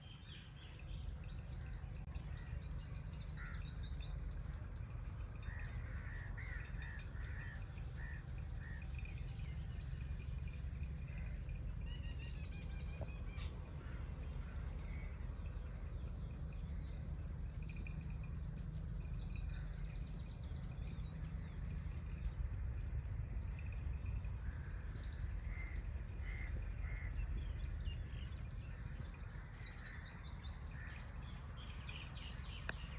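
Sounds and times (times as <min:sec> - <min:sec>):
songbirds chirping and trilling: 0:00.0 - 0:32.9
steady low rumble: 0:00.0 - 0:32.9.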